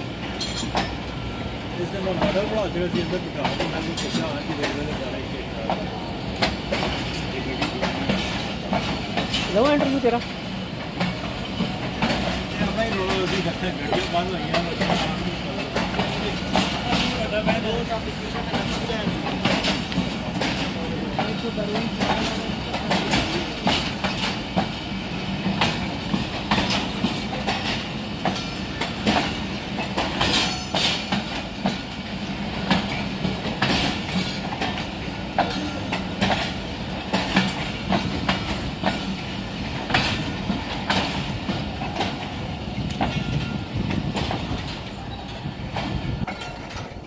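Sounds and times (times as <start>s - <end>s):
train rumble and low hum: 0.0s - 47.0s
train wheels clacking over rail joints: 0.0s - 47.0s.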